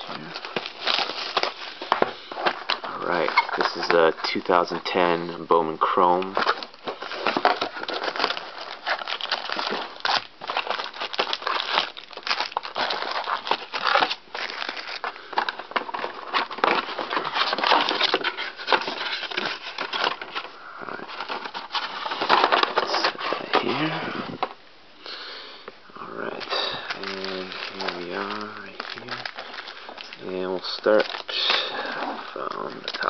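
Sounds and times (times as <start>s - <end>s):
plastic wrapping crinkling: 0.0s - 24.6s, 26.0s - 33.0s.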